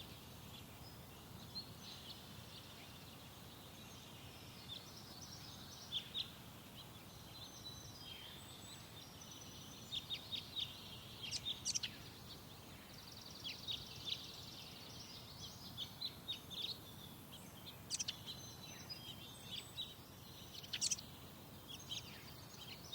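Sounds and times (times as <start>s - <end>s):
songbirds chirping and singing: 0.0s - 22.9s.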